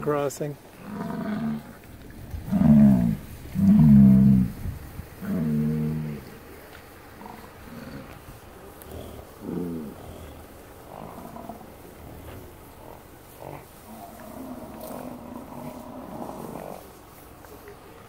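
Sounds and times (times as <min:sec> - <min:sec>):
bison bellowing: 0:00.7 - 0:17.8.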